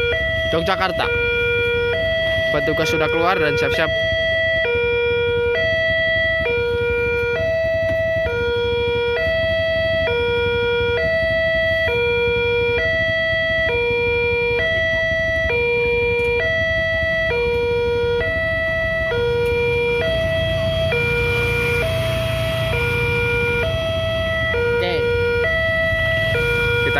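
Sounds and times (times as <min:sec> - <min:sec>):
idling motorcycles and cars: 0:00.0 - 0:26.9
level crossing warning alarm: 0:00.0 - 0:26.9.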